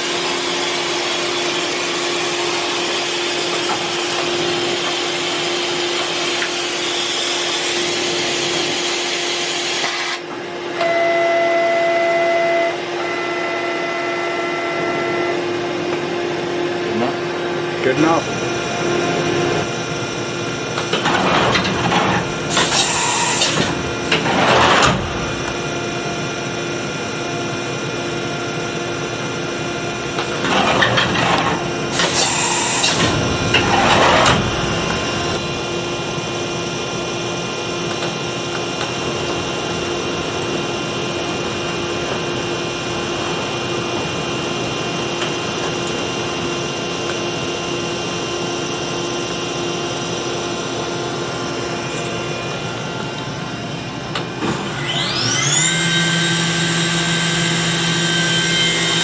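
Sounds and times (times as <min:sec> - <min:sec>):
loud noisy machining: 0:00.0 - 0:59.0
machine hum: 0:00.0 - 0:59.0.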